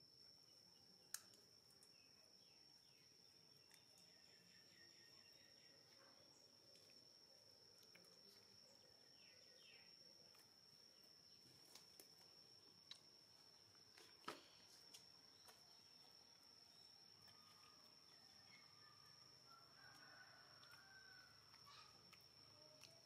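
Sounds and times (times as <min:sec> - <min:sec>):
faint insect drone: 0:00.0 - 0:23.0.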